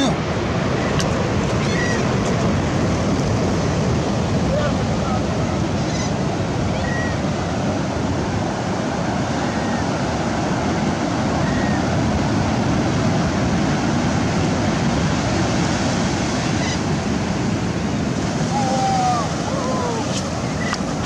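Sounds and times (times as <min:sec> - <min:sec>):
ocean waves washing up beach: 0:00.0 - 0:21.0
wind on microphone: 0:00.0 - 0:21.0.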